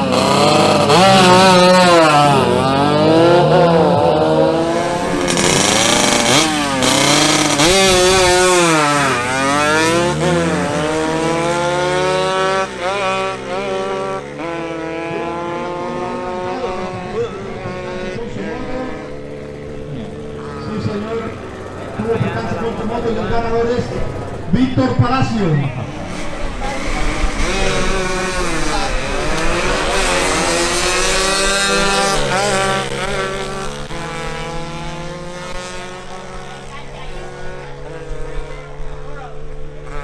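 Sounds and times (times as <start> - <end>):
motorcycles revving and accelerating: 0.0 - 40.0.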